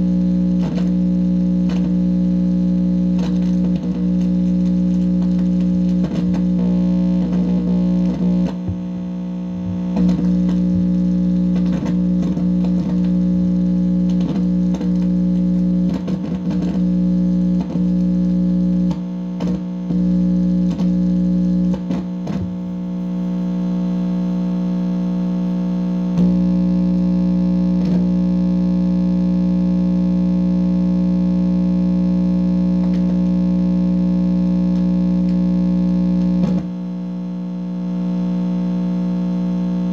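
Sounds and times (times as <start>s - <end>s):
amplifier crackles and pops: 0.0s - 39.9s
amplifier hum: 0.0s - 39.9s.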